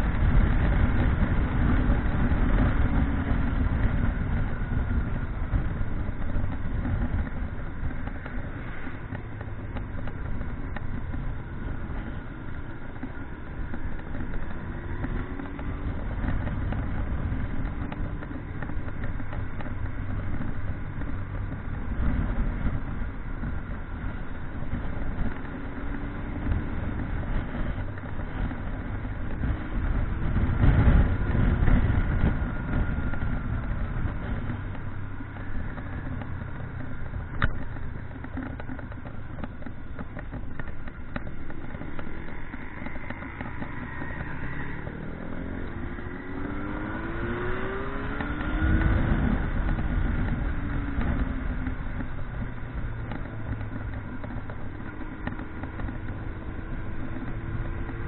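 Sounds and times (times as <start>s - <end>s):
motorcycle engine: 0.0s - 58.0s
steady rushing noise: 0.0s - 58.0s.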